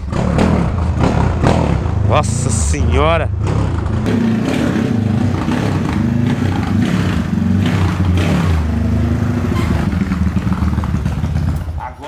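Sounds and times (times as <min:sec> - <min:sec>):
motorcycle engine at low revs: 0:00.0 - 0:11.9.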